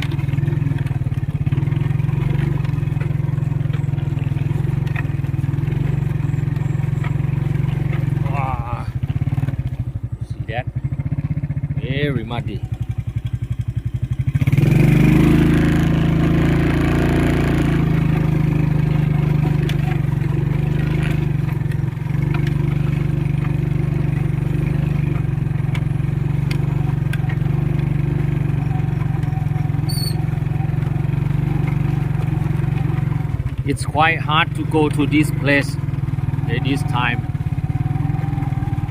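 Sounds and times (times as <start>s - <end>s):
motorcycle engine running under load: 0.0s - 38.9s.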